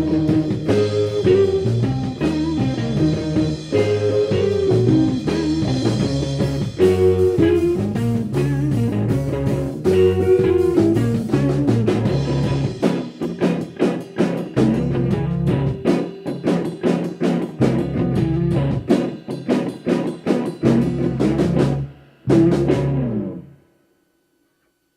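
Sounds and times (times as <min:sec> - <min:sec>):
drum hits: 0:00.0 - 0:23.2
rock band playing: 0:00.0 - 0:23.6.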